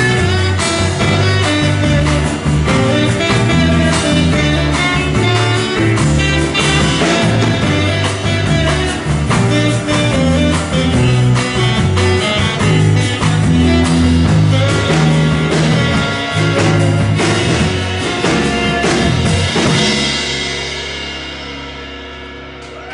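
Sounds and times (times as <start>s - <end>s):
live band playing: 0.0s - 22.9s.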